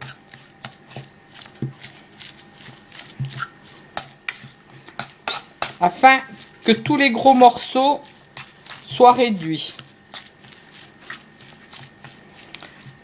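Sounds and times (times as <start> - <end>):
fork scraping metal bowl: 0.0 - 13.0.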